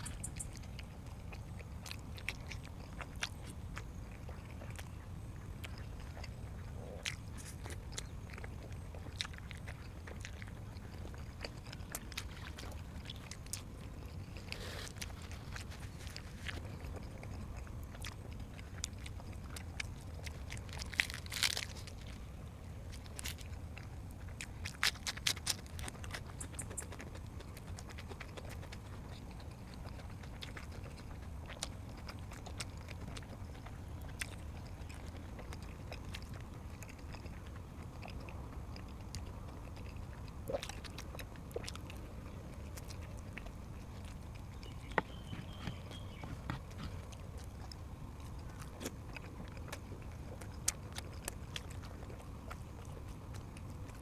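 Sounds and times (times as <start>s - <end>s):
person chewing and crunching: 0.0s - 54.0s
steady low hum: 0.0s - 54.0s.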